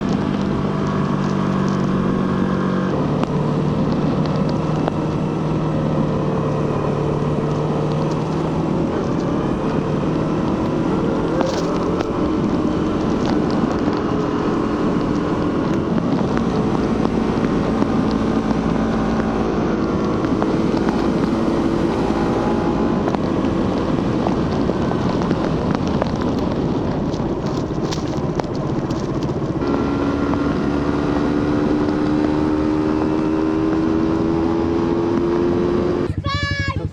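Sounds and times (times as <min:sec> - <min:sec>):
motorcycle engine running: 0:00.0 - 0:36.9
wind and road noise: 0:00.0 - 0:36.9.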